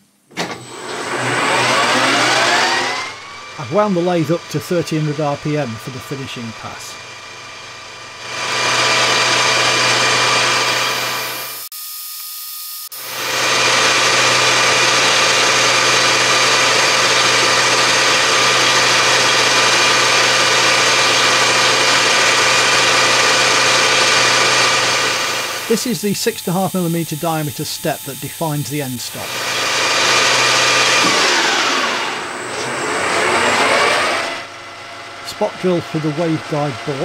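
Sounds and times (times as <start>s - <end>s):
lathe running: 0.5s - 37.0s.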